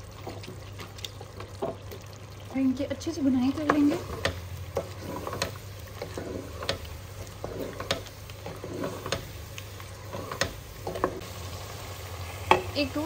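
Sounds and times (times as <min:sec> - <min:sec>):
low sizzle: 0:00.0 - 0:13.0.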